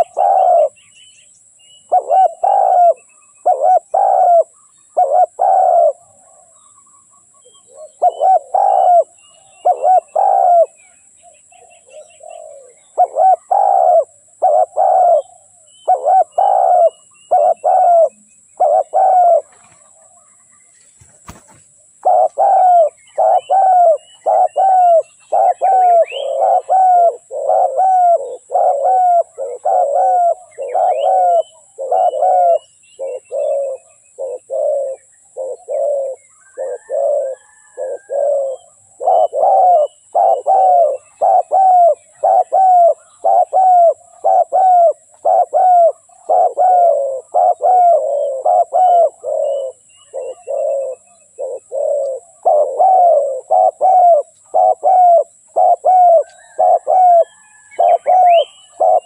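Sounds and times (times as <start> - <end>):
dove cooing: 0.0 - 0.9, 1.8 - 6.6, 7.3 - 20.4, 21.0 - 59.0
small birds chirping: 0.0 - 59.0.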